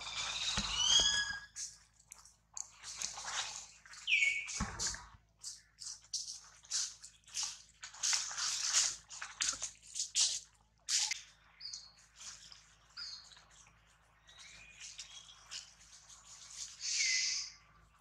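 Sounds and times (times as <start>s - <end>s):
leaves and twigs rustling: 0.0s - 11.2s, 12.1s - 17.6s.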